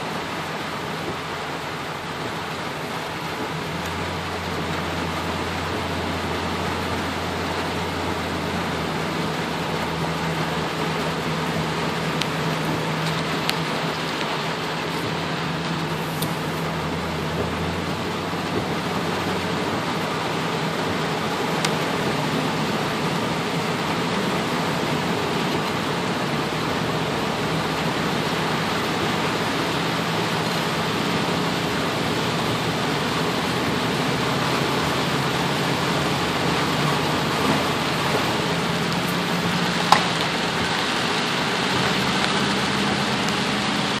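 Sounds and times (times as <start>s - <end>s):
heavy rain on a car: 0.0s - 44.0s
tyres running through floodwater: 0.0s - 44.0s.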